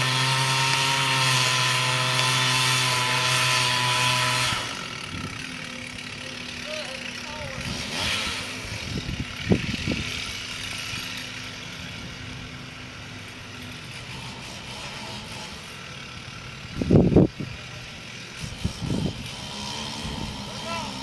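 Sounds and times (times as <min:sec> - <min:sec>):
chainsaw idling: 0:00.0 - 0:21.0.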